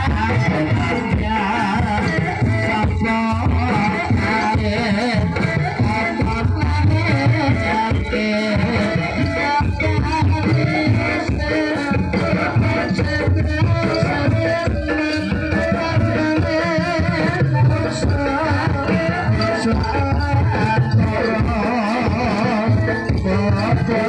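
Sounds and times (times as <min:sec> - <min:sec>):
hand drums and rattling percussion: 0:00.0 - 0:24.0
person singing: 0:00.0 - 0:24.0.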